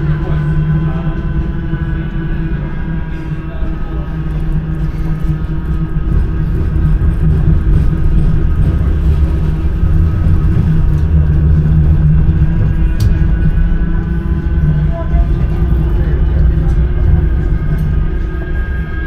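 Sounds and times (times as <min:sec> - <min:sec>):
traction equipment humming: 0:00.0 - 0:19.0
tram wheels rumbling: 0:00.0 - 0:19.0.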